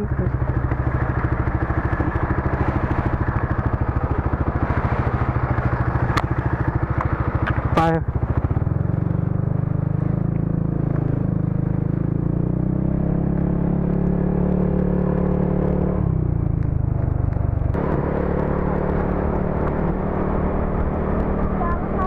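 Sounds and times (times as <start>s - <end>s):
scooter engine running: 0.0s - 22.0s.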